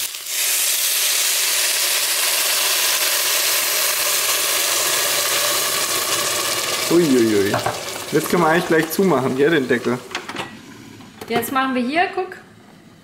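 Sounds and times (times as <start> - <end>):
water sizzling in hot pot: 0.0 - 11.8.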